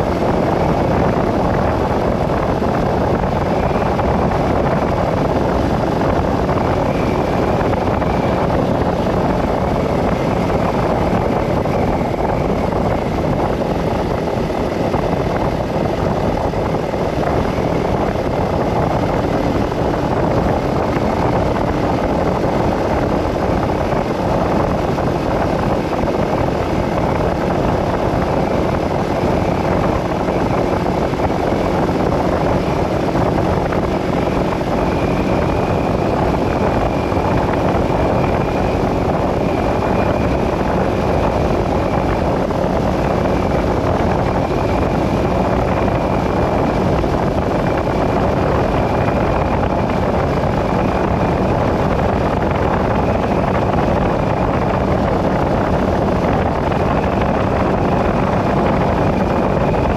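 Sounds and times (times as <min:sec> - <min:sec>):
vehicle driving on road: 0:00.0 - 0:59.9.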